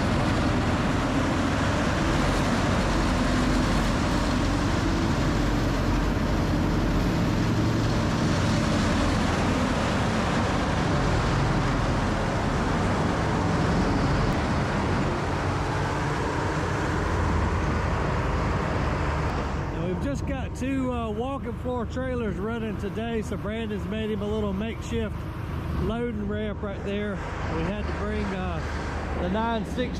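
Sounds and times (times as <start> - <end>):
heavy diesel machinery: 0.0 - 29.9.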